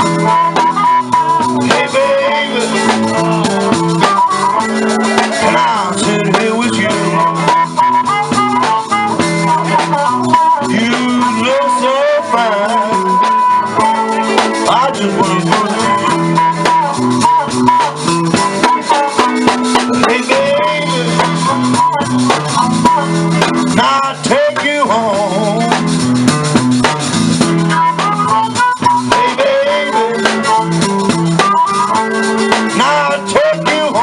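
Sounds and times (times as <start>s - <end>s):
bending guitar lead line: 0.0s - 34.0s
blues guitar: 0.0s - 34.0s
steady beat: 0.0s - 34.0s.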